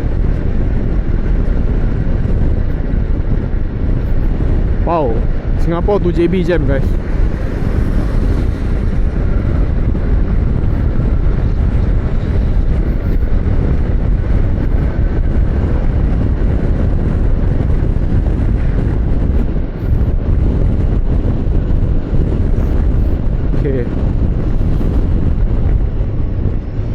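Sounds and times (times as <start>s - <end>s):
motorcycle engine and road noise: 0.0s - 26.9s
wind rush over microphone: 0.0s - 26.9s.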